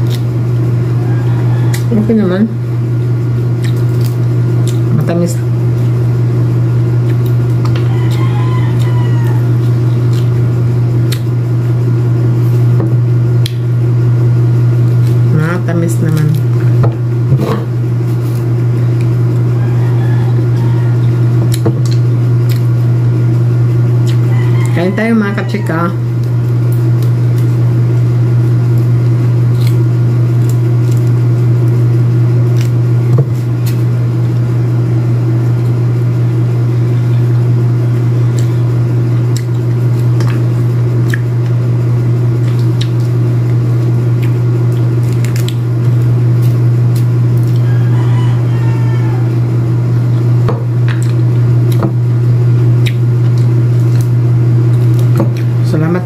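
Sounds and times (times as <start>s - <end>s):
loud steady low hum: 0.0s - 56.0s.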